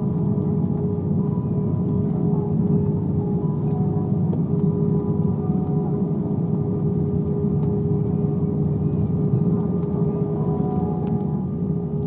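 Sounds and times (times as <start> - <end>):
constant hum: 0.0 - 12.0
engine and wheels rumble: 0.0 - 12.0.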